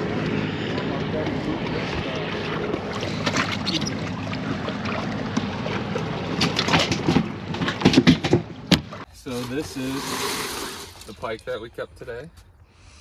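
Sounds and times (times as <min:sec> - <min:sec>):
outboard motor running: 0:00.0 - 0:10.9
wind and water: 0:00.0 - 0:12.8.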